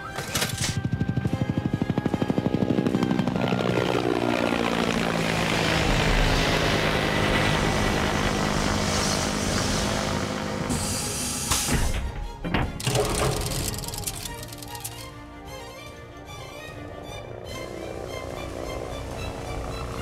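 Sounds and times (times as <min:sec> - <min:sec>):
helicopter rotor thumping: 0:00.1 - 0:15.2, 0:17.3 - 0:20.0.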